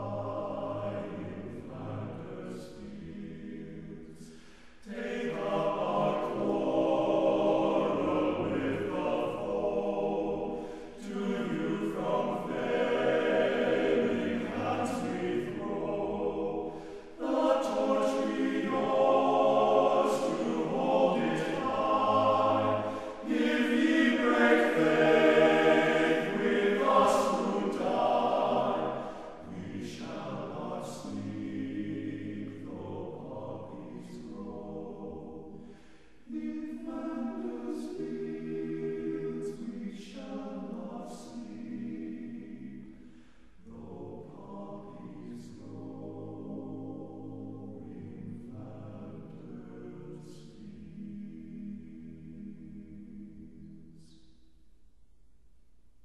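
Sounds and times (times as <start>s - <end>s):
choir singing: 0.0s - 54.4s.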